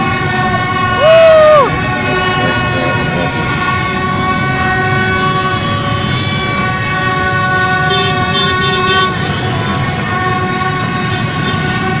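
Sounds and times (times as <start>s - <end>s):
horns blaring: 0.0s - 12.0s
street traffic rumble: 0.0s - 12.0s.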